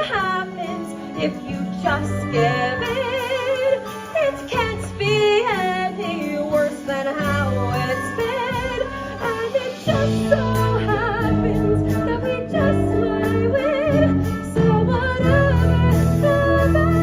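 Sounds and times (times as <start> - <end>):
musical accompaniment: 0.0 - 17.0
woman singing with vibrato: 0.0 - 17.0.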